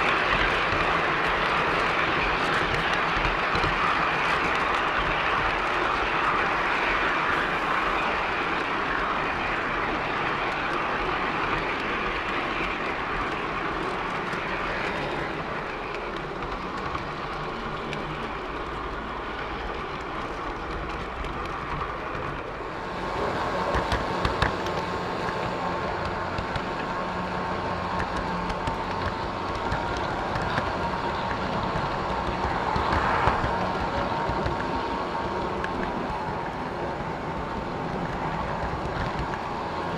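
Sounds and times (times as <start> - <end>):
model train wheels on rails: 0.0 - 39.9.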